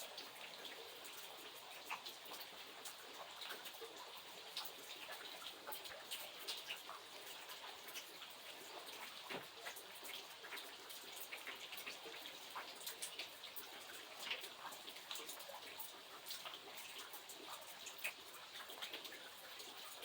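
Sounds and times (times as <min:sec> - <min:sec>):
raindrop ticks: 0:00.1 - 0:20.0.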